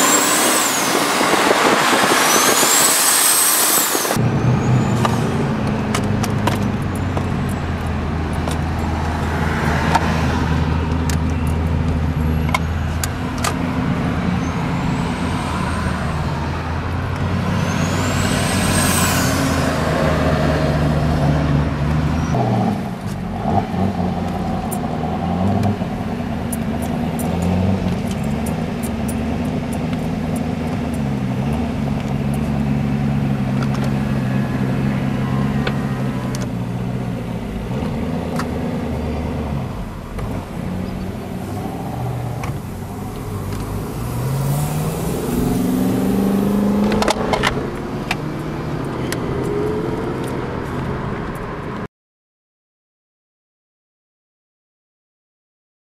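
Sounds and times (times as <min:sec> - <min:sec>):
car engine revving: 0:00.0 - 0:12.1, 0:13.1 - 0:51.7.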